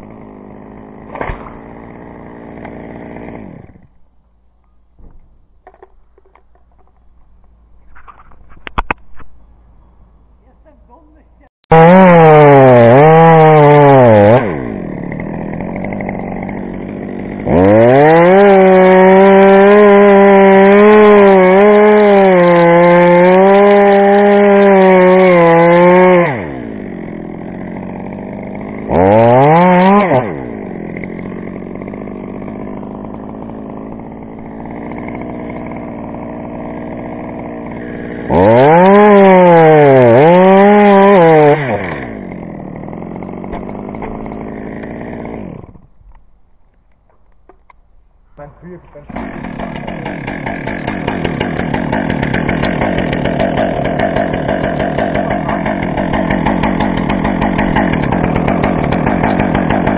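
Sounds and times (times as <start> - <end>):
chainsaw revving and cutting wood: 0.0 - 4.0, 11.7 - 46.0, 49.0 - 59.9.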